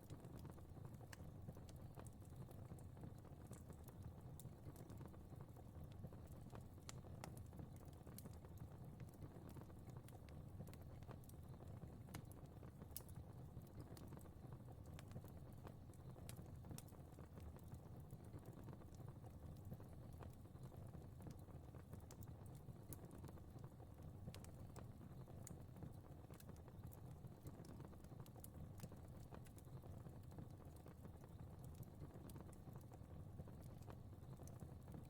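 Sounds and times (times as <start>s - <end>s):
fire snapping and popping: 0.0s - 35.0s
low rumble of burning: 0.0s - 35.0s.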